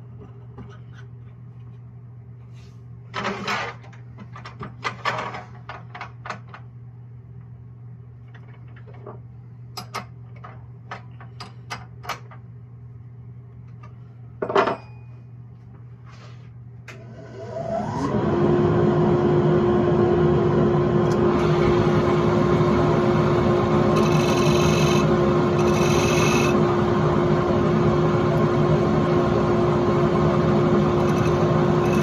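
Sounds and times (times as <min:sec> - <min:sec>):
steady low hum: 0:00.0 - 0:17.0, 0:19.1 - 0:32.0.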